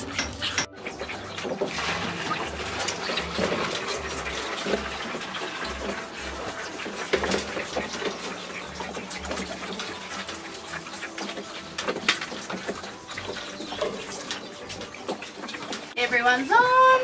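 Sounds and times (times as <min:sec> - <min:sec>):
calves sucking and slobbering: 0:00.0 - 0:16.0
milk pouring and splashing: 0:00.0 - 0:17.0.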